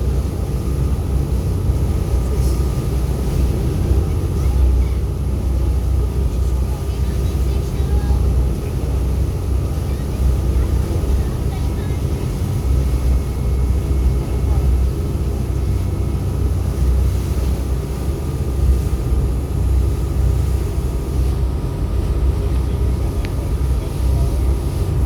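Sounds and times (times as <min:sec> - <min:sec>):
ferry engines droning: 0:00.0 - 0:25.0.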